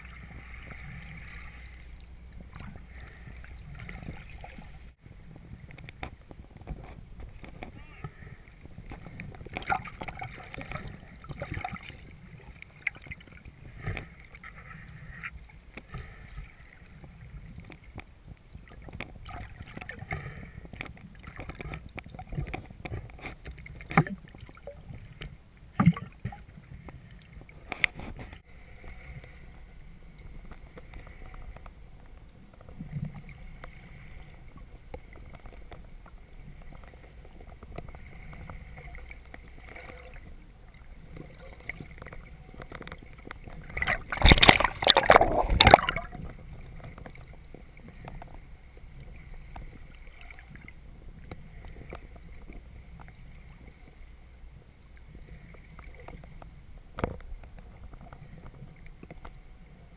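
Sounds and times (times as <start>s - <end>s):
faint steady hum: 0.0s - 59.9s
underwater rumble of moving water: 0.0s - 59.9s.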